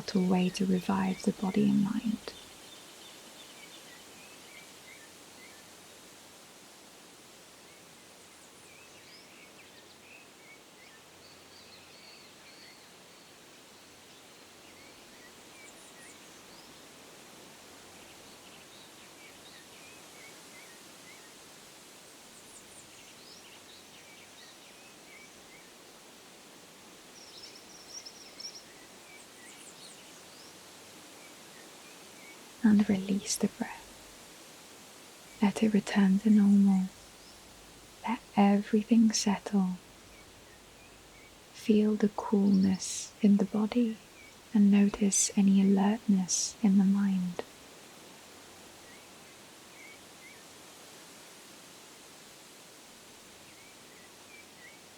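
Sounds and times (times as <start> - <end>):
small birds chirping: 0.0 - 6.2, 7.6 - 21.4, 22.2 - 25.9, 26.8 - 47.6, 48.5 - 51.1, 53.4 - 54.9
steady soft hiss: 0.0 - 54.9.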